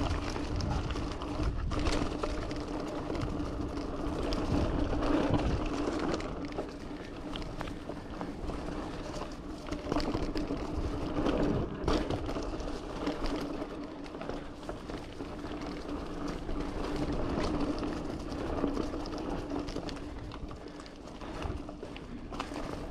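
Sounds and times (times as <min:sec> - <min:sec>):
bike tyres rolling over rough ground: 0:00.0 - 0:22.9.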